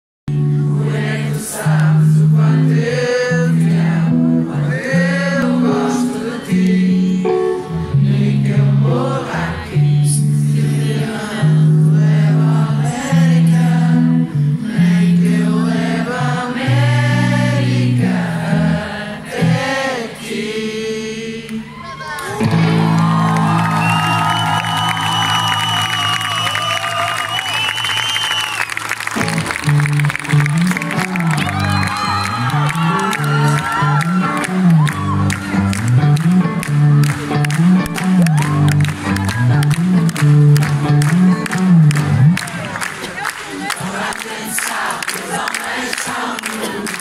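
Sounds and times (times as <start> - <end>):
live rock concert singing and guitar: 0.3 - 27.6, 29.2 - 47.0.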